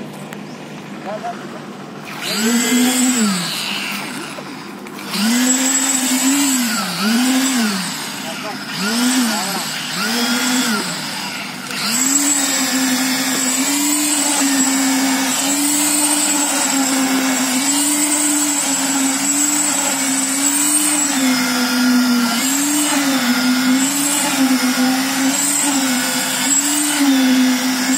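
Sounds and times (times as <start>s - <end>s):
concrete vibrator motor whine: 0.4s - 27.9s.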